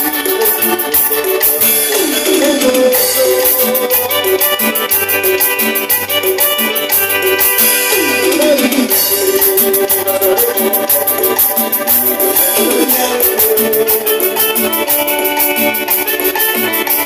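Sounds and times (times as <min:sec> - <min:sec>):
live band playing latin dance music: 0:00.0 - 0:17.0
quick high percussion beat: 0:00.0 - 0:17.0.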